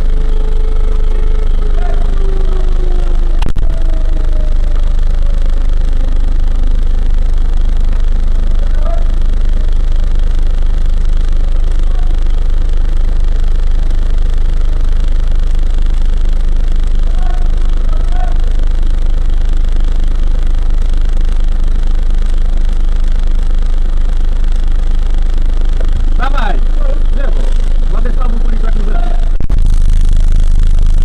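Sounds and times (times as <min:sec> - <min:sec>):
fire engine idling: 0:00.0 - 0:29.3.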